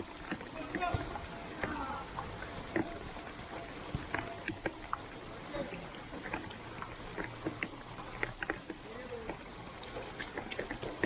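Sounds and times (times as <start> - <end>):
rain hissing on turf: 0.0 - 11.0.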